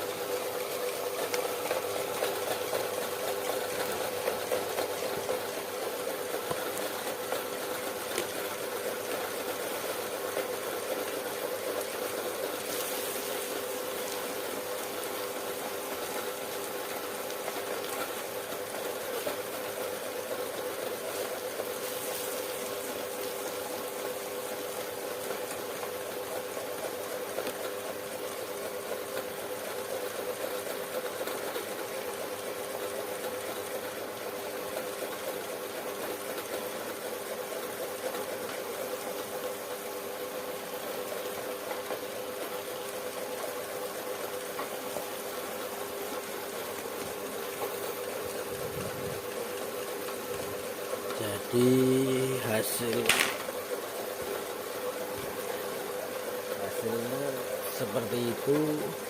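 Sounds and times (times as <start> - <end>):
electric meat grinder humming: 0.0 - 59.0.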